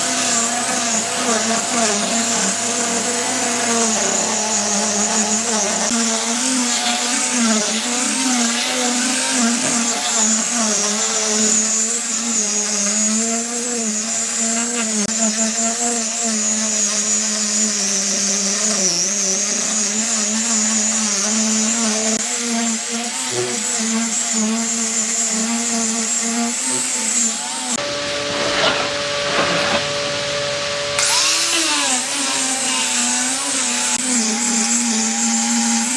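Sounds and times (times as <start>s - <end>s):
power tool motor whining: 0.0s - 35.9s.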